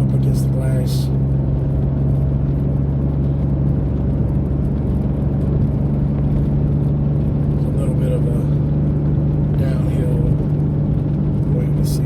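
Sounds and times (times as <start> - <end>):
car engine and exhaust droning: 0.0 - 12.0.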